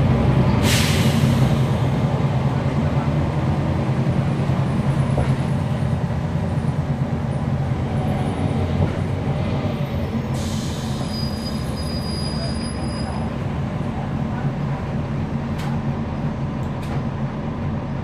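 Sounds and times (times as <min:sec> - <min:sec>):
bus diesel engine running: 0:00.0 - 0:18.0
road and body rumble: 0:00.0 - 0:18.0.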